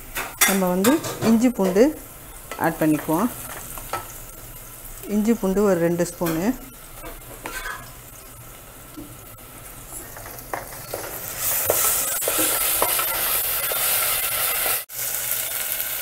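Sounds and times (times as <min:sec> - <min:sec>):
paste sizzling in hot oil: 0:01.9 - 0:16.0.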